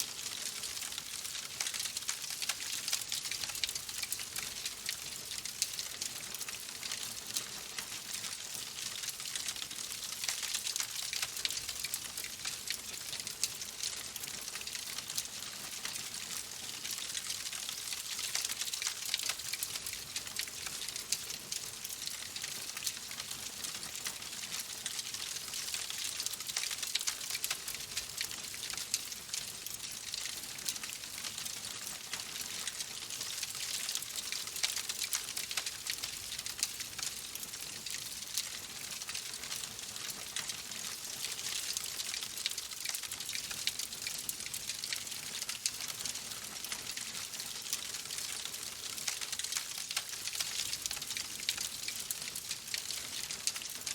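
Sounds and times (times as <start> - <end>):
fire crackling in a fireplace: 0.0 - 53.9.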